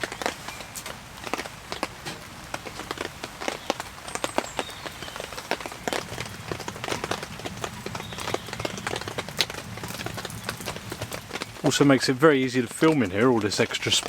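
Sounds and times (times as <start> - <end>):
rain pattering on tent fabric: 0.0 - 14.0.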